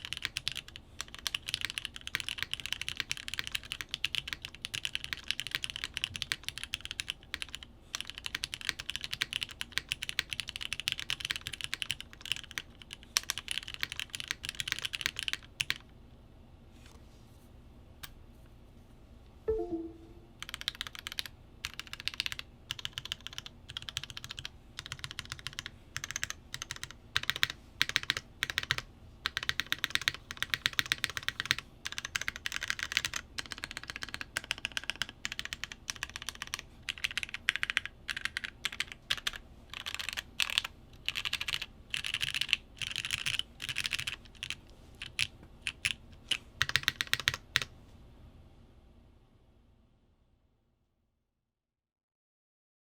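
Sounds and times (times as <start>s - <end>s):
mechanical keyboard typing: 0.0s - 15.8s, 19.5s - 47.7s.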